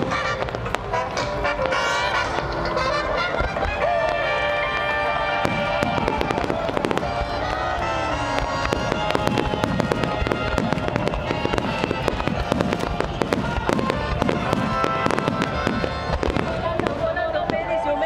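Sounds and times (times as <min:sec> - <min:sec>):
firework shells bursting: 0:00.0 - 0:17.2.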